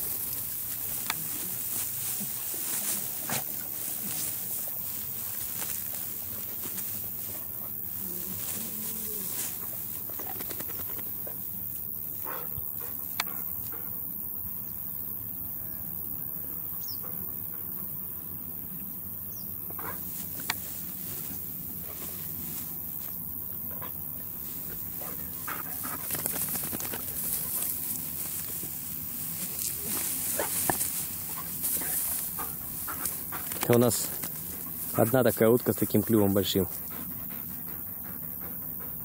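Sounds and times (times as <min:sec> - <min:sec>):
outdoor background noise: 0:00.0 - 0:39.0.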